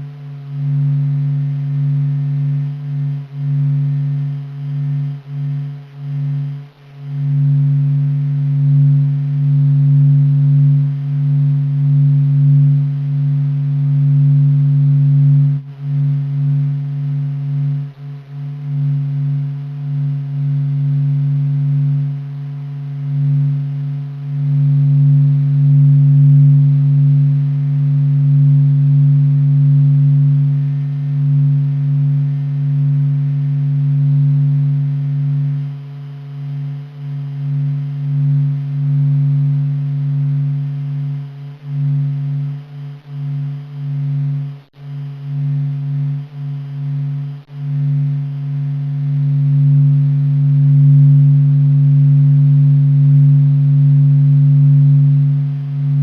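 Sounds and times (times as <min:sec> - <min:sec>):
low two-tone hum: 0:00.0 - 0:56.0.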